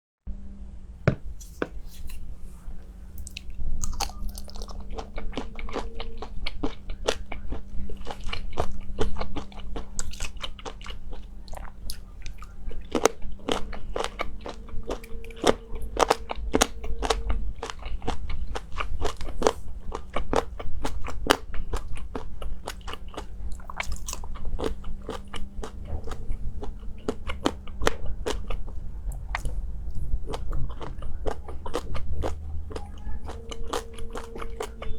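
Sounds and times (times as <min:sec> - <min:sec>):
faint low hum: 0:00.3 - 0:34.9
crunchy chewing: 0:01.4 - 0:34.9.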